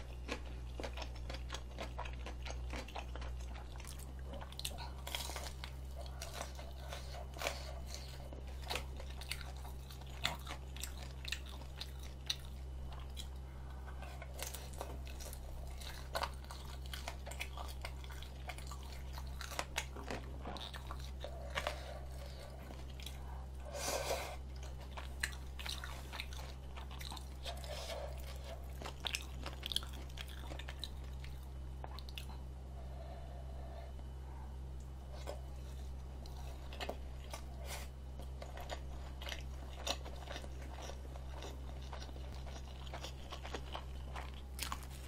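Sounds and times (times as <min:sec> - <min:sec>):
close chewing with crunches: 0:00.0 - 0:45.0
low electrical hum: 0:00.0 - 0:45.0.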